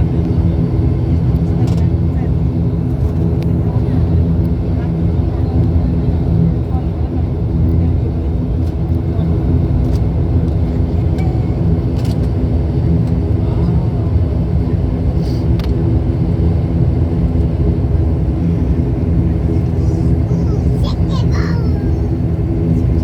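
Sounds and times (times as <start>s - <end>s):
turboprop engines droning: 0.0s - 23.0s.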